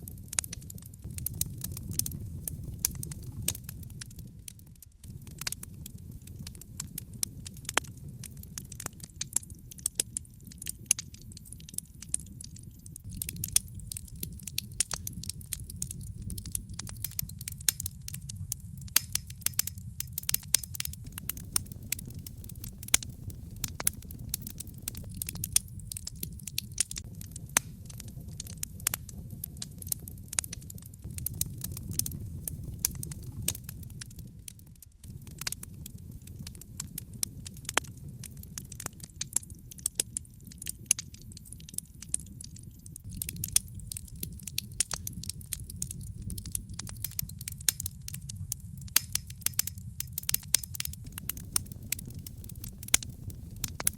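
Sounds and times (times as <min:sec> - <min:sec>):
logs crackling and popping: 0:00.0 - 0:53.9
low rumble of flames: 0:00.0 - 0:53.9.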